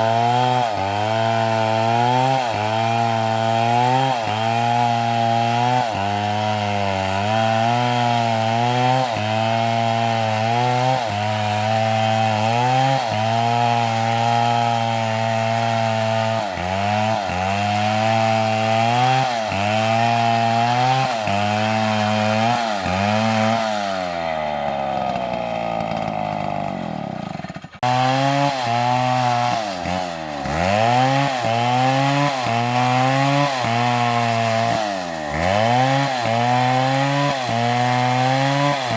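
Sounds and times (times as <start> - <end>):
chainsaw cutting into tree: 0.0 - 38.9.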